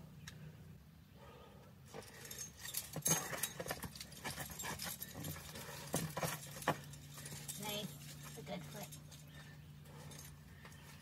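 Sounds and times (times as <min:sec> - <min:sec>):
climbing gear clinking and knocking: 0:01.9 - 0:11.0.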